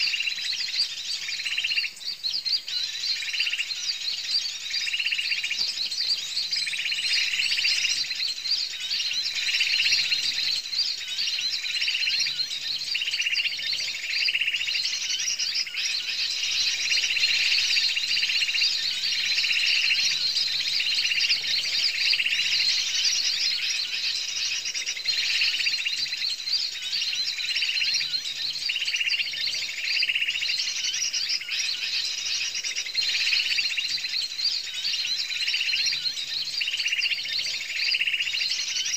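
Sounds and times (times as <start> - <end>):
lower bird call: 0.0 - 38.9
small birds chirping: 0.0 - 38.9.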